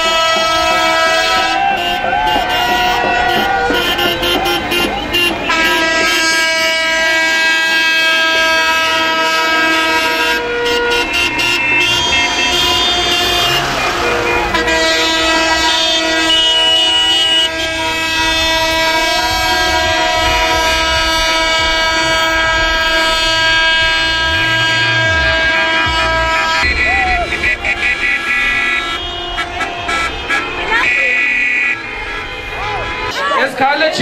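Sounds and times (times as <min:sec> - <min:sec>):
many car horns sounding: 0:00.0 - 0:34.0.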